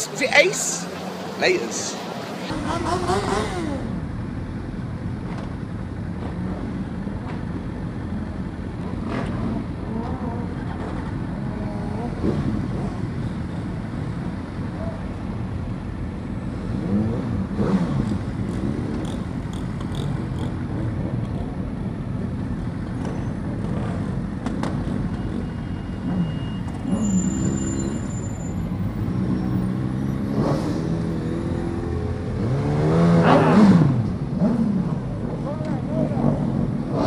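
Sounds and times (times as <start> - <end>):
motorcycle engines revving: 0.0 - 37.0
road and wind noise: 0.0 - 37.0.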